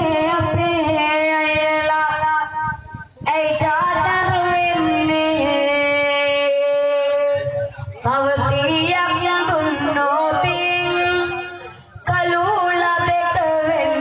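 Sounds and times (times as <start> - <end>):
girl singing into microphone: 0.0 - 14.0.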